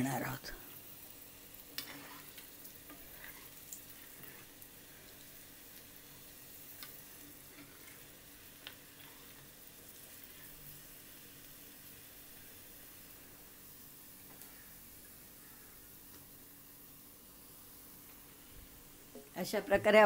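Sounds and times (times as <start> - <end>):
fritters sizzling in hot oil: 0.0 - 20.0.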